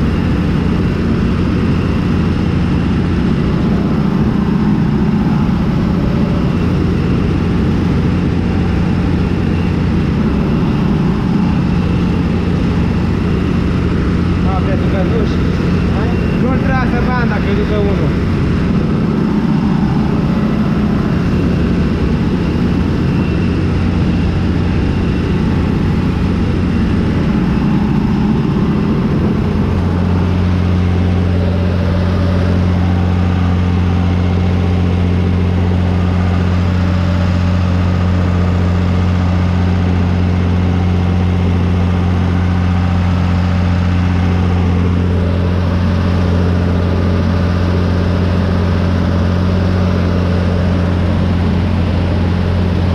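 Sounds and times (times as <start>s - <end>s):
harvesting machinery running: 0.0s - 52.9s
tractor diesel engine under load: 0.0s - 52.9s.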